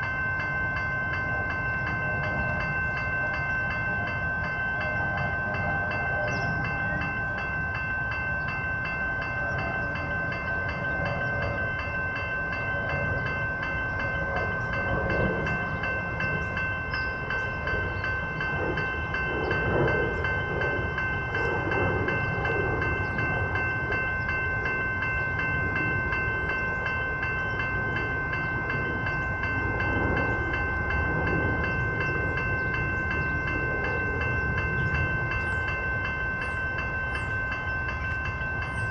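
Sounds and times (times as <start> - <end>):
level crossing bells ringing: 0.0 - 38.9
train rumbling: 0.0 - 38.9.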